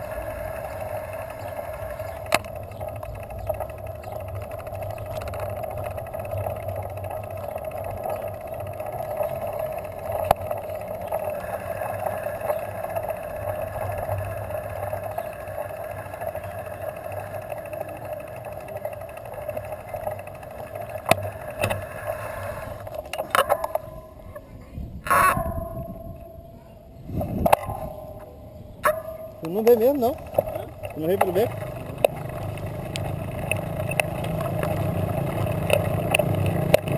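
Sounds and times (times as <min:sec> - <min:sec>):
bicycle riding hum: 0:00.0 - 0:36.9.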